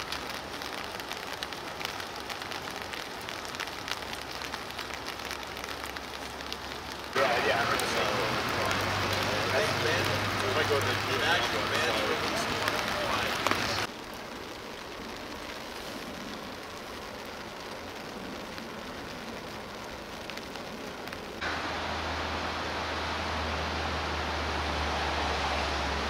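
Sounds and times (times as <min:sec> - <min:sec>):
rain and floodwater rushing: 0:00.0 - 0:26.0.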